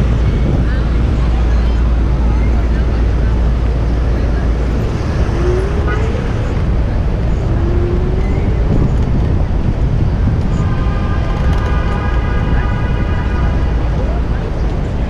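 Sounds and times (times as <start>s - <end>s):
street traffic noise: 0.0s - 15.0s
wind rushing over microphone: 0.0s - 15.0s.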